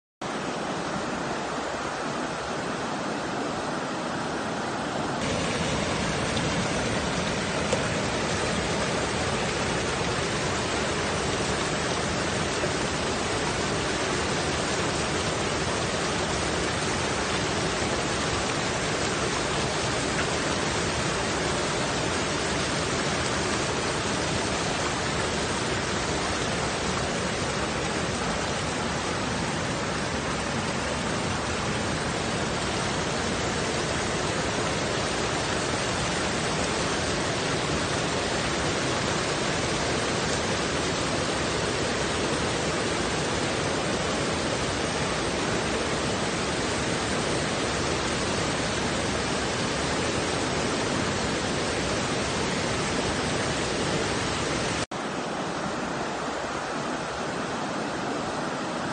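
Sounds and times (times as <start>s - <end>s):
water rushing over rocks: 0.2s - 58.9s.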